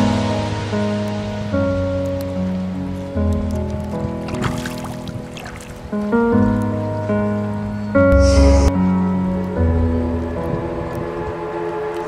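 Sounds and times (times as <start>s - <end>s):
sustained background music: 0.0s - 12.0s.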